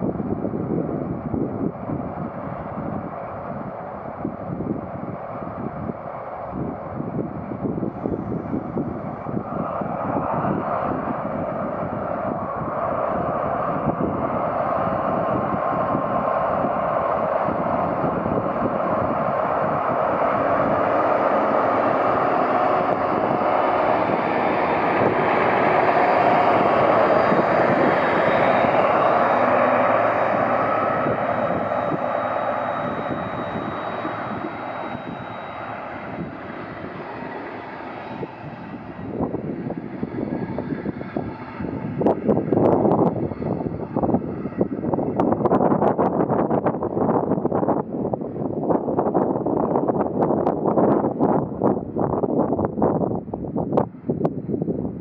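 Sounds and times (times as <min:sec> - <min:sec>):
diesel locomotive engine: 0:00.0 - 0:55.0
wind buffeting microphone: 0:00.0 - 0:55.0.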